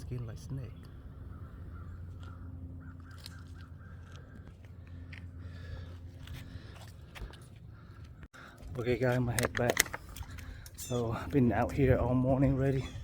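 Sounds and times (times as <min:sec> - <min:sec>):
birds calling: 0:00.0 - 0:09.1, 0:09.9 - 0:13.0
low steady hum: 0:00.0 - 0:13.0.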